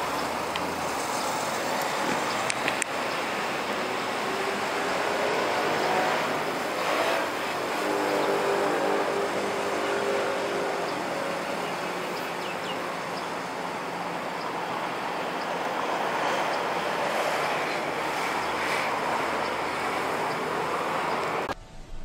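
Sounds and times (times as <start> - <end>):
cars driving past: 0.0 - 22.0
engine hum: 0.0 - 22.0.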